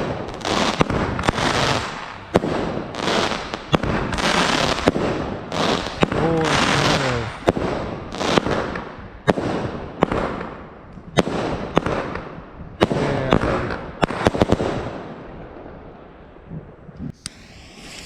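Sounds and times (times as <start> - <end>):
fireworks crackling: 0.0 - 14.9, 17.1 - 18.0
fireworks bangs: 0.0 - 16.1, 17.1 - 18.0.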